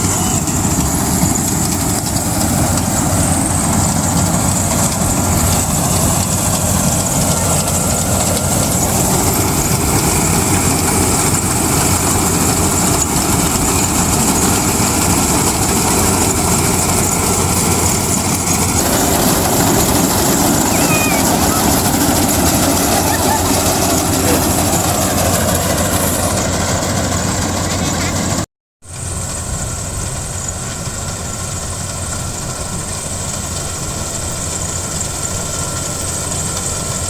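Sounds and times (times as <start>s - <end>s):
combine harvester running: 0.0s - 37.0s.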